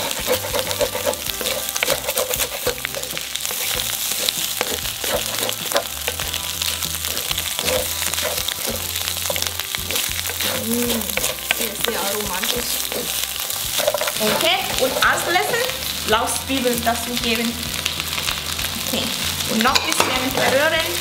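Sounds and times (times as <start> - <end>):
spatula scraping pan: 0.0 - 16.8, 17.7 - 21.0
rice sizzling in pan: 0.0 - 21.0.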